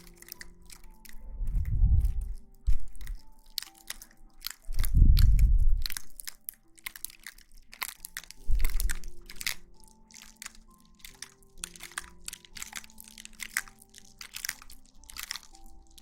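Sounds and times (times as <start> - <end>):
crisp rustling crackling: 0.0 - 16.0
faint background music: 0.0 - 16.0.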